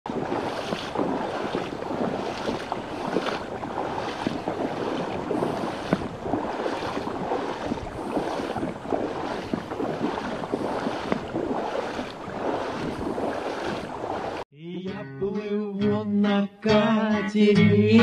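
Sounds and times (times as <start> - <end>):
water splashing and sloshing: 0.0 - 14.5.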